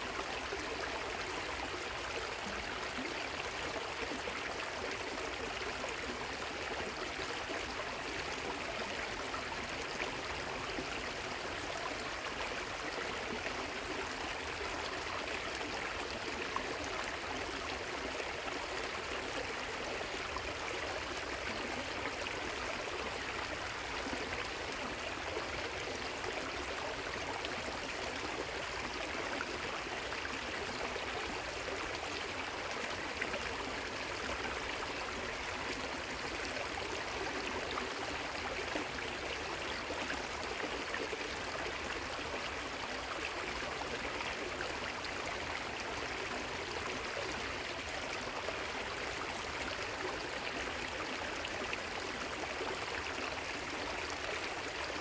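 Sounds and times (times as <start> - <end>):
waterfall and river water running: 0.0 - 55.0.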